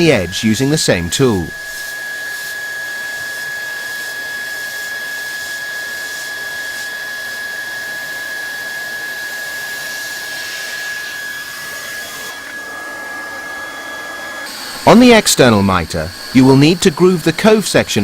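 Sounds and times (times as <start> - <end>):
hot-air blower rushing: 0.0 - 18.0.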